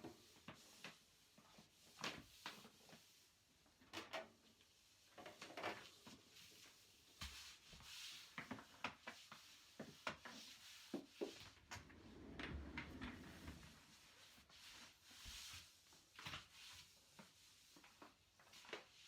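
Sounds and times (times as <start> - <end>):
mop swishing over floor: 0.0 - 19.0.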